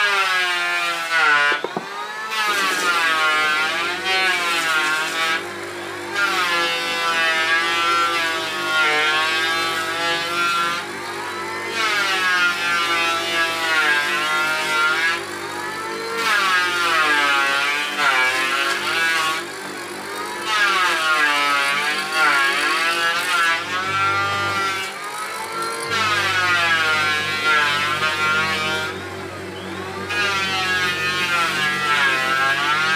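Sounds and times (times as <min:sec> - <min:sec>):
mortising machine motor whine: 0:00.0 - 0:32.9.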